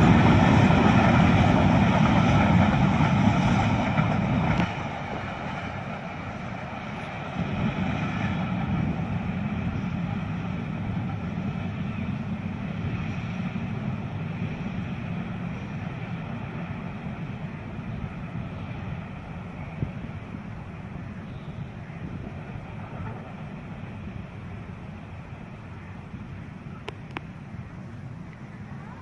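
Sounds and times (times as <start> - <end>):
freight train wagons rolling: 0.0 - 29.0.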